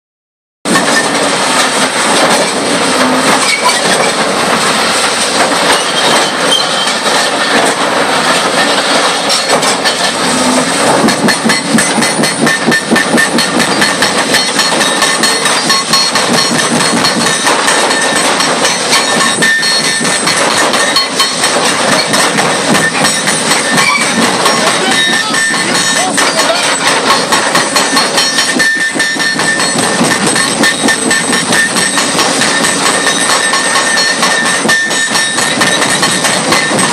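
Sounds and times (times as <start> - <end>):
diesel machinery running: 0.7 - 36.9.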